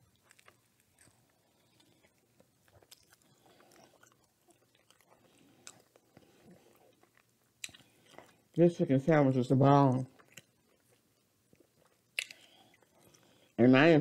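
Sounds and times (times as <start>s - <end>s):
faint chewing: 0.0s - 8.6s, 9.9s - 13.6s
mouth clicks and smacks: 0.1s - 8.4s, 10.2s - 13.2s.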